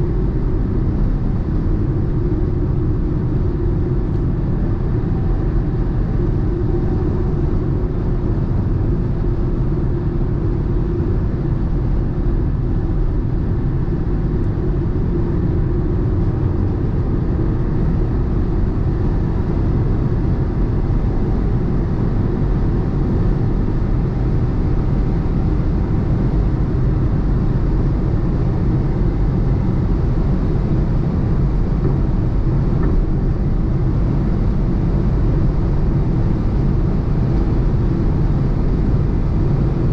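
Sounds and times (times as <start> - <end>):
car engine drone: 0.0 - 39.9
wind and tyre roar: 0.0 - 39.9.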